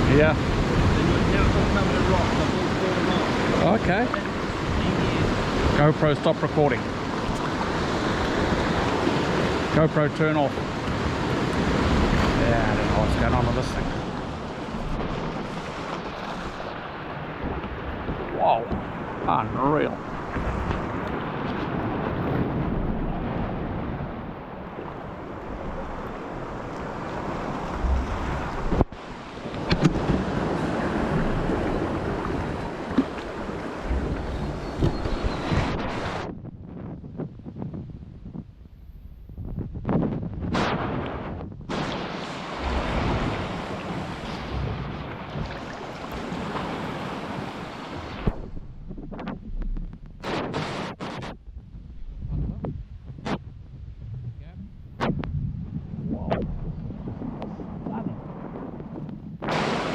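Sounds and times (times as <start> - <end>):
sea water washing around kayak: 0.0 - 37.6, 38.6 - 59.9
wind buffeting microphone: 0.0 - 59.9.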